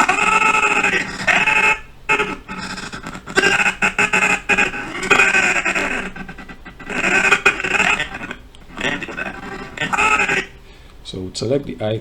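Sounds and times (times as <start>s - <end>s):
stuttering man's voice fragments: 0.0s - 12.0s.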